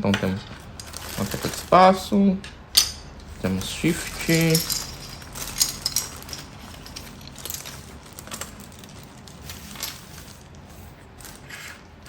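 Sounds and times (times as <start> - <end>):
plastic keycaps rustling: 0.1 - 11.8.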